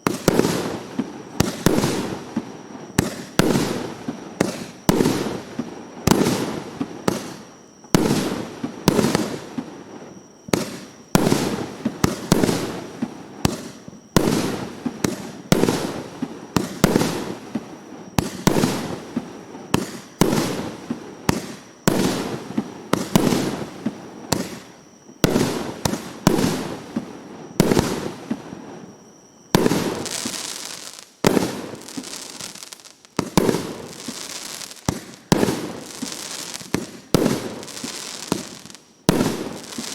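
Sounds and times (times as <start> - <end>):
firework bangs with crackle: 0.0 - 39.9.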